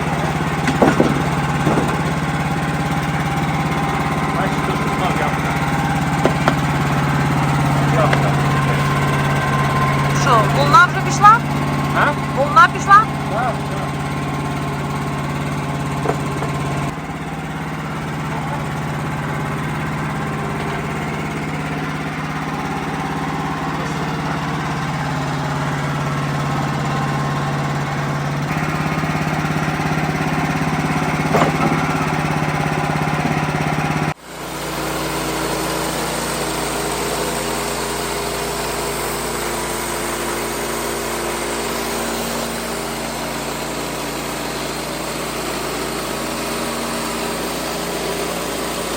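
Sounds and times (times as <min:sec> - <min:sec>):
sawmill engine humming: 0:00.0 - 0:48.9.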